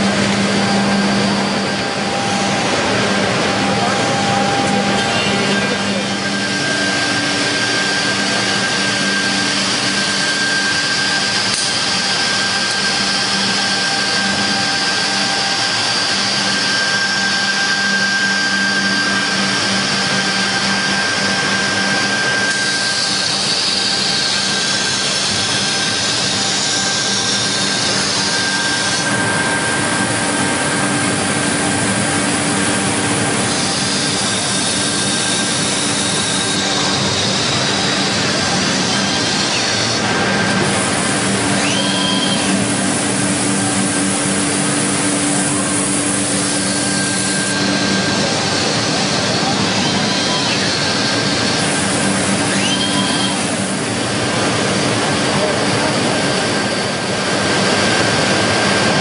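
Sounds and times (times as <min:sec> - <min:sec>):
woodworking machinery running: 0:00.0 - 0:59.0.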